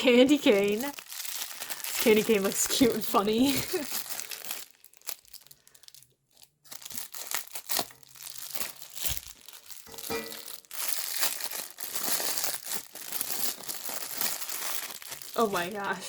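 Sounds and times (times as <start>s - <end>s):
plastic packaging crinkling and tearing: 0.0s - 16.0s.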